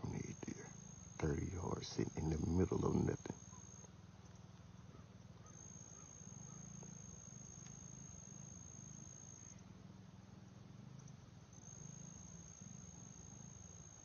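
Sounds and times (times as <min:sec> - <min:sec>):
high-pitched insect trill: 0:00.0 - 0:04.5, 0:05.4 - 0:09.9, 0:10.9 - 0:14.0
faint low rumble: 0:00.0 - 0:14.0.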